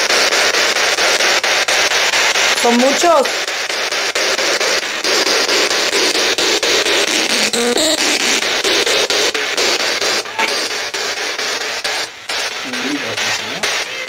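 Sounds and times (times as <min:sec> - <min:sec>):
radio static hiss stepping: 0:00.0 - 0:14.0.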